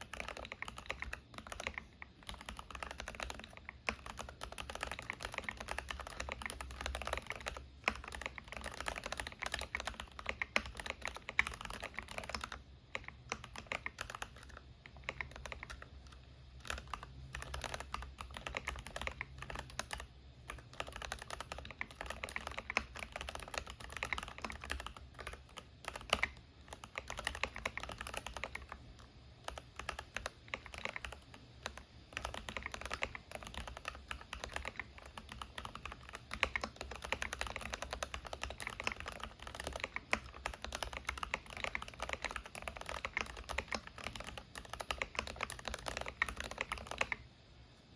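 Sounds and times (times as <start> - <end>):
mechanical keyboard typing: 0.0 - 47.3.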